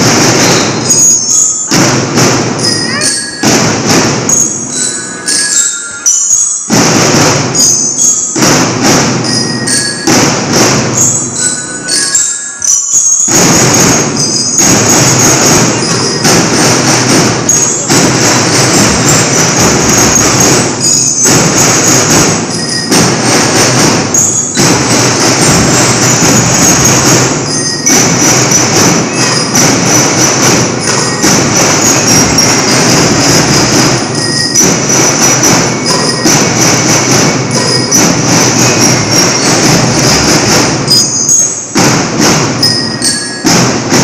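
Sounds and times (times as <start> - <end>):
bell lyres playing a tune: 0.0 - 44.0
drums playing: 0.0 - 44.0.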